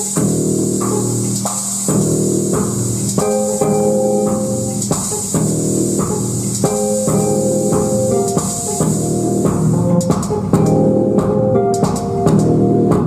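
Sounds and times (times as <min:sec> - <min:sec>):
steady high hiss: 0:00.0 - 0:13.0
synthesizer chords: 0:00.0 - 0:13.0.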